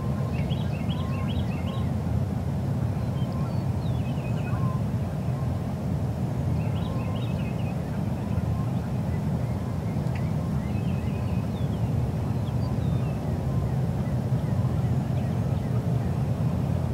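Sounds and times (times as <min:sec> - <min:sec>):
songbirds chirping: 0:00.0 - 0:02.0, 0:02.8 - 0:05.7, 0:06.5 - 0:16.9
low outdoor rumble: 0:00.0 - 0:16.9.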